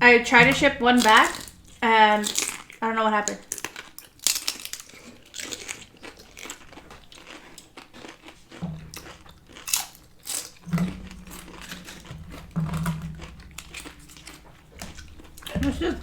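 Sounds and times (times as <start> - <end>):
biting and chewing crisp chips: 0.9 - 16.0.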